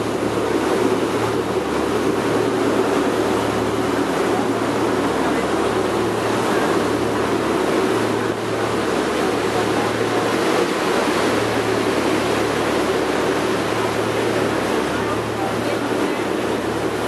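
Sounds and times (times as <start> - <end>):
boat engine drone: 0.0 - 17.0
water rushing along hull: 0.0 - 17.0.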